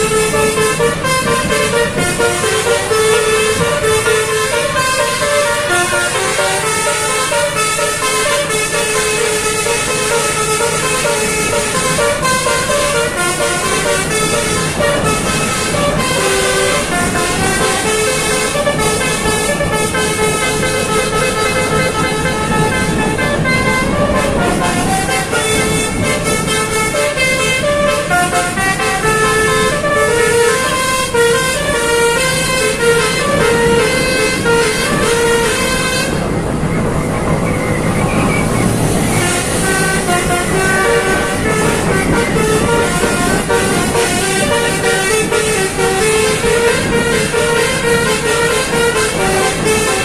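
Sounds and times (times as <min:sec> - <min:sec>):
air horn playing melody: 0:00.0 - 0:36.4, 0:38.7 - 0:50.0
bus engine running: 0:00.0 - 0:50.0.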